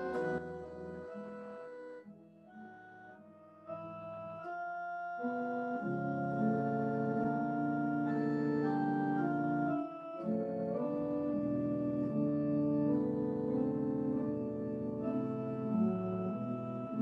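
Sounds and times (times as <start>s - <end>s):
organ playing held chords: 0.0s - 17.0s.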